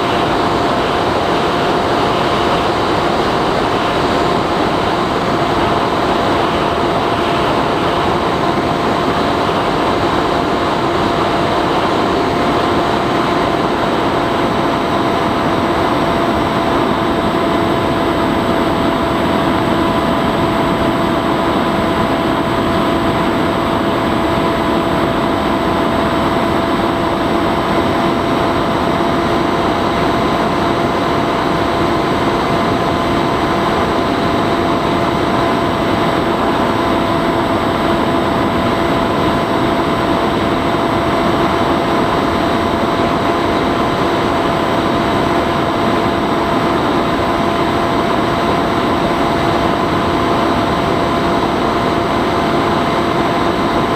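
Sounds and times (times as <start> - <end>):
model plane motor whine: 0.0 - 53.9.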